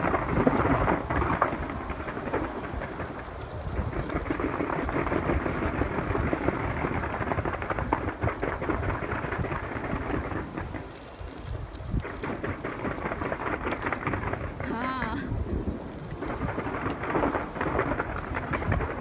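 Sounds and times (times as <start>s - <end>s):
distant booms rumbling: 0.0s - 19.0s
fireworks crackling: 0.0s - 19.0s.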